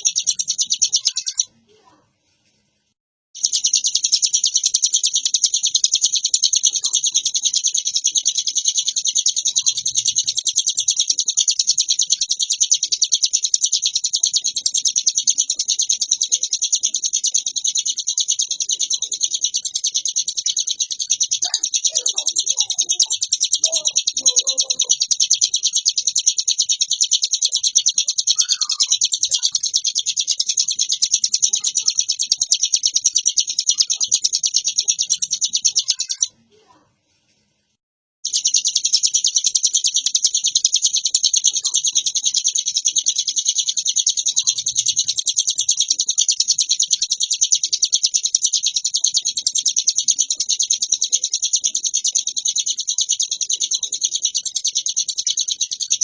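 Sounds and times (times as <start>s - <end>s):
bird singing fast chattering trill: 0.0s - 1.6s, 3.4s - 36.7s, 38.2s - 56.0s.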